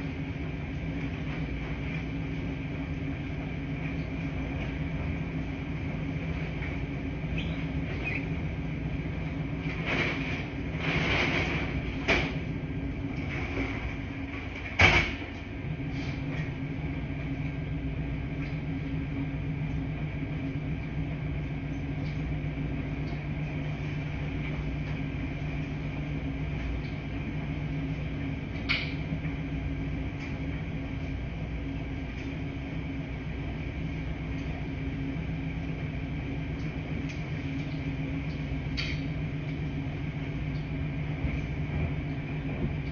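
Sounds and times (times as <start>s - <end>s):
laundry machines humming: 0.0s - 42.9s.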